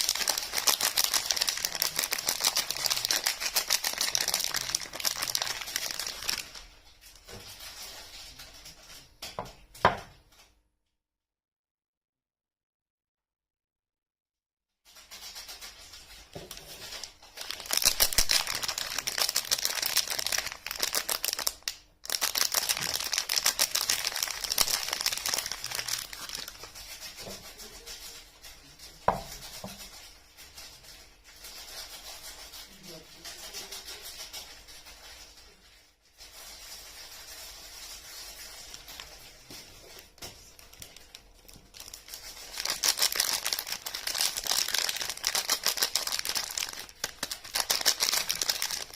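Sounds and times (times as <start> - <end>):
wrapping crinkled and torn: 0.0 - 9.1, 15.0 - 32.6, 33.8 - 48.9.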